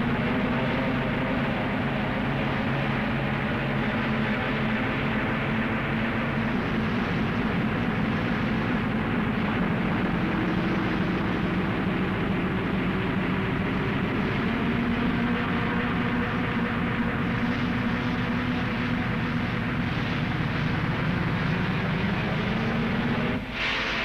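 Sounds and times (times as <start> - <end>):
racing car engines droning: 0.0 - 24.0.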